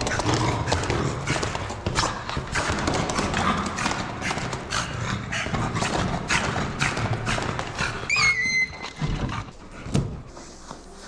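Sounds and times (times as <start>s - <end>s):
dog footfalls on stone stairs: 0.0s - 9.6s.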